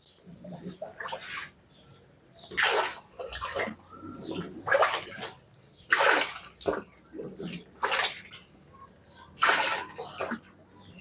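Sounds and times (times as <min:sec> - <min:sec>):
water splashing and gurgling: 0:00.0 - 0:01.8, 0:02.4 - 0:11.0.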